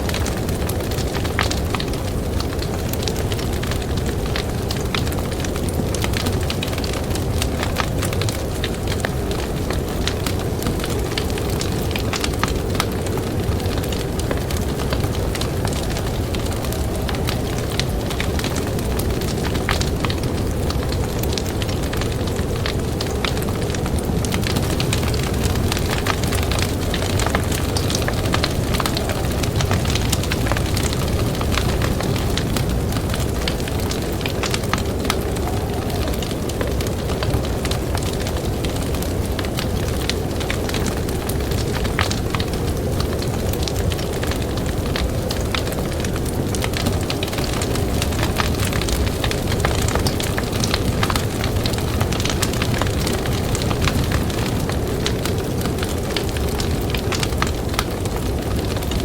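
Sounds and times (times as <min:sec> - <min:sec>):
blizzard wind rumbling: 0:00.0 - 0:59.0
campfire crackling and popping: 0:00.0 - 0:59.0.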